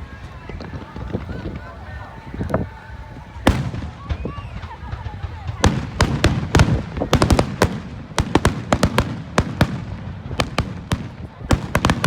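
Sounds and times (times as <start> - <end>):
fireworks cracking: 0.0 - 12.0.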